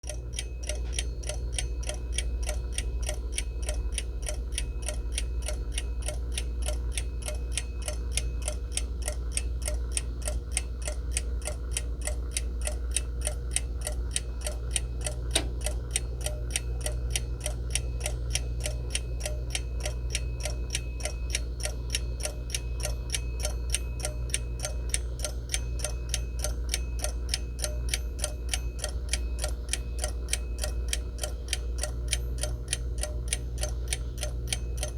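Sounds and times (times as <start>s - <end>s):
alarm clock ticking: 0.0s - 34.9s.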